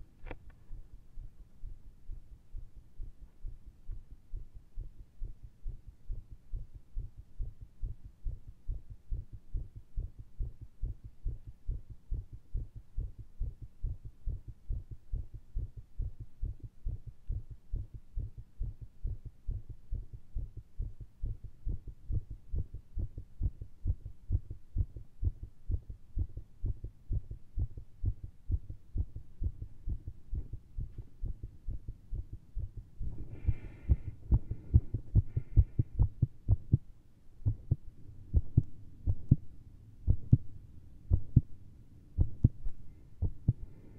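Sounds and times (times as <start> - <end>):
fast heartbeat thuds: 4.3 - 39.5, 40.1 - 40.5, 41.1 - 41.5, 42.2 - 43.7.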